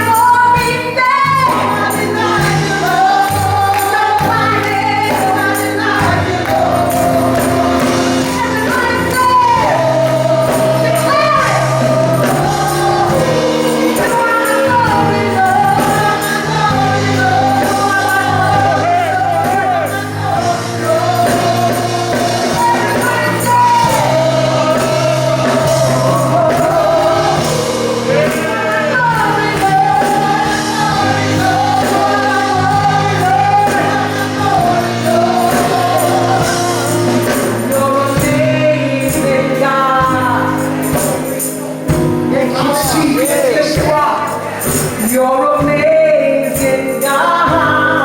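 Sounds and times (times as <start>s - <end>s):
lead voice singing with vibrato: 0.0s - 48.0s.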